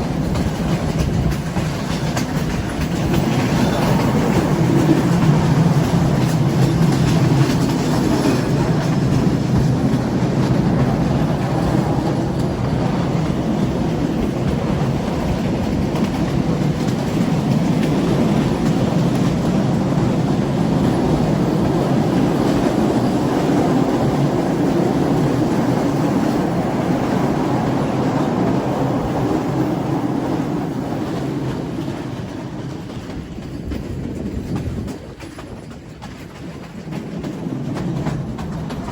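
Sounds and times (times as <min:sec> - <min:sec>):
train rumbling on rails: 0:00.0 - 0:38.9.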